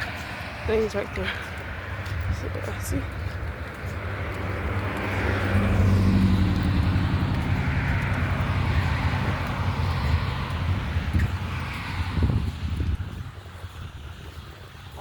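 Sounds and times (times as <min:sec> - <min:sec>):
vehicle passing close by: 0:00.0 - 0:14.3
traffic hum: 0:00.0 - 0:15.0.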